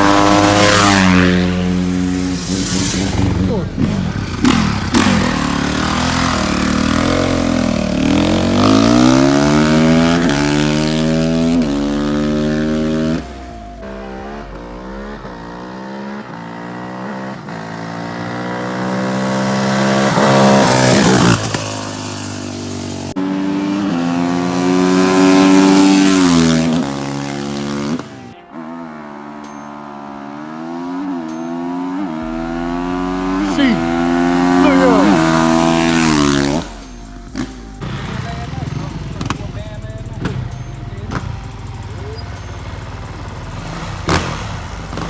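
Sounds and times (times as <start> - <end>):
dirt bike engines accelerating: 0.0 - 45.0.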